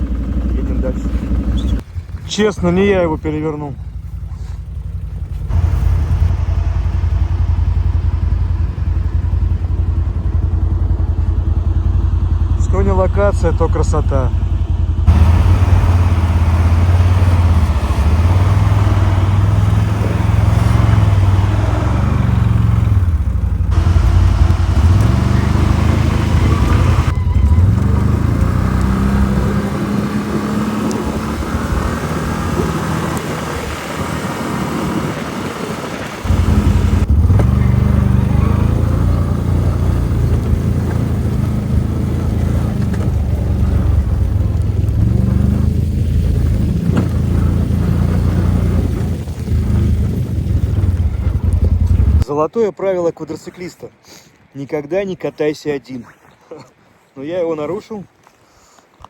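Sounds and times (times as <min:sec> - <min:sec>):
quad bike engine revving: 0:00.0 - 0:01.8, 0:04.2 - 0:52.2.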